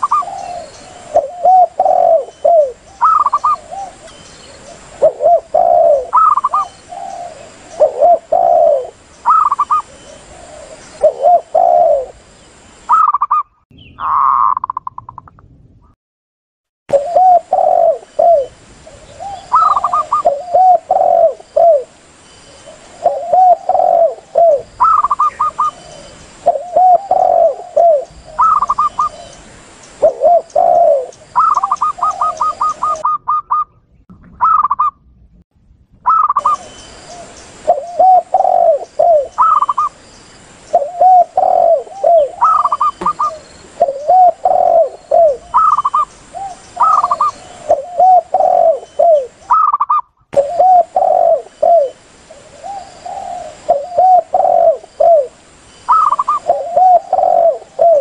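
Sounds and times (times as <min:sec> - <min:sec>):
doves cooing: 0:00.0 - 0:12.2, 0:16.9 - 0:22.0, 0:22.7 - 0:33.8, 0:36.1 - 0:40.0, 0:40.8 - 0:58.0.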